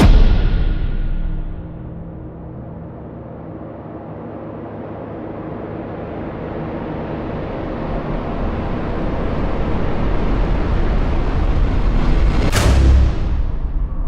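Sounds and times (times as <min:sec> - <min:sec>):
reversed rumbling impact: 0:00.0 - 0:14.0.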